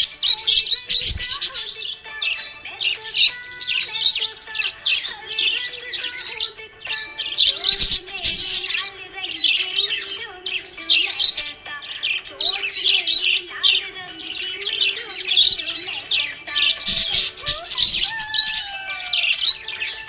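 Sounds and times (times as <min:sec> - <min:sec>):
budgerigar chirping and warbling: 0:00.0 - 0:20.0.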